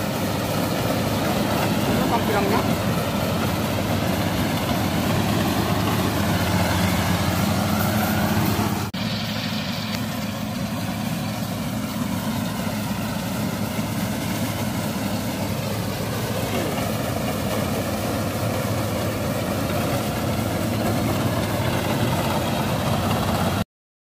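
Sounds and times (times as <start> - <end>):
combine harvester engine drone: 0.0 - 23.6.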